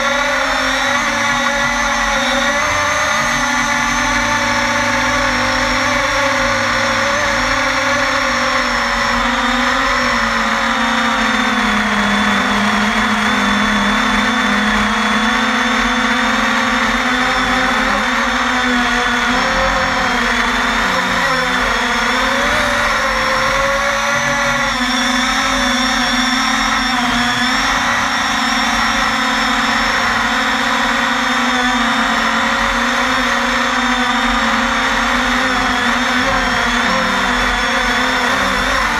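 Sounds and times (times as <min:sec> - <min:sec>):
quadcopter motors buzzing whine: 0:00.0 - 0:38.9.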